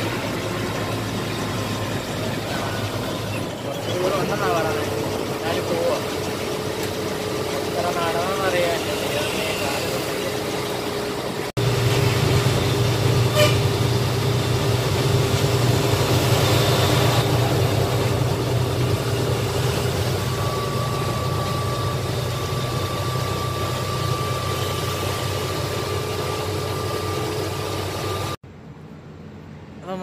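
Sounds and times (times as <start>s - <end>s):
higher whine: 0.0s - 30.0s
lorry engine and road noise: 0.0s - 30.0s.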